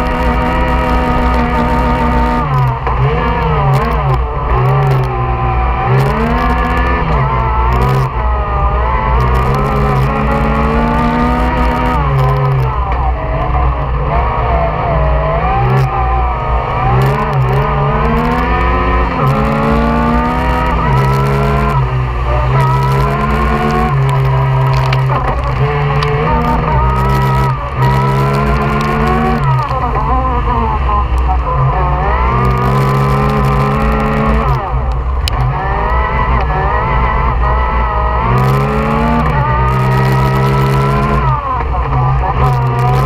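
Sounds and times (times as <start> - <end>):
engine revving hard: 0.0 - 43.0.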